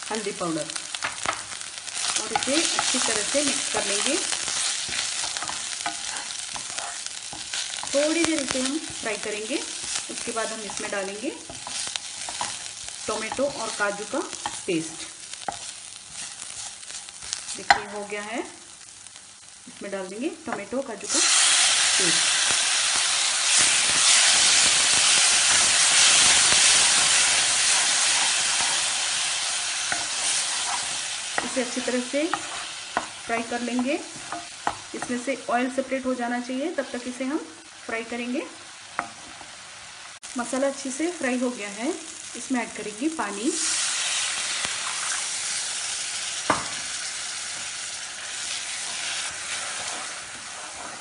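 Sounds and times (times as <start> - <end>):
paste sizzling in hot oil: 0.0 - 51.0.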